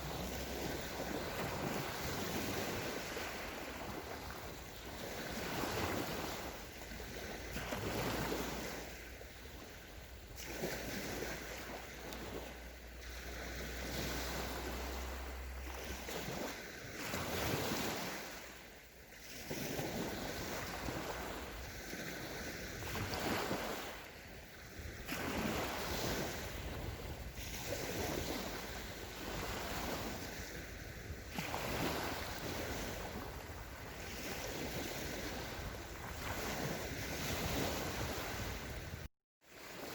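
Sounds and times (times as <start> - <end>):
waves washing on sandy shore: 0.0 - 39.9
wind on microphone: 0.0 - 39.9.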